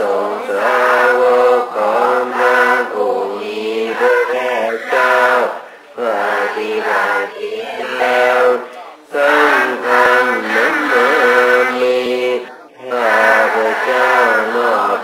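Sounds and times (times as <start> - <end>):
man singing chant-like melody: 0.0 - 15.0.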